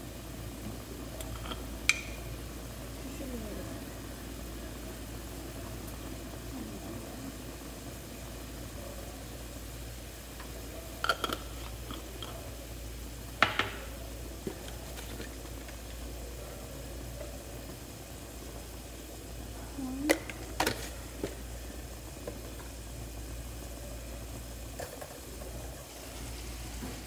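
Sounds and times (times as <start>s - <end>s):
broth boiling and bubbling: 0.0s - 27.0s.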